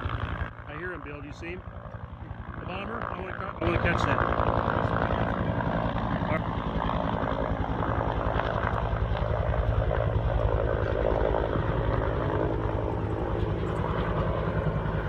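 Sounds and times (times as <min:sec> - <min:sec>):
helicopter engine drone: 0:00.0 - 0:15.0
helicopter rotor beat: 0:00.0 - 0:15.0.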